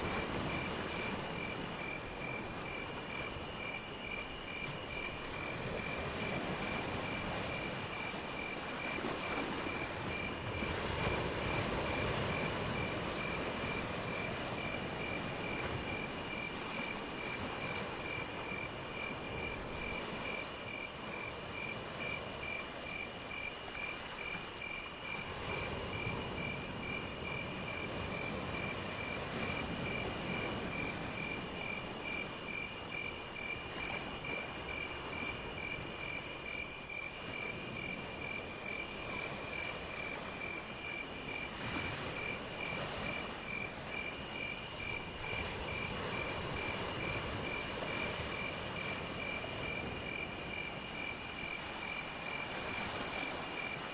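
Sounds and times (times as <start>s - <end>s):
insect buzzy call: 0.0s - 53.9s.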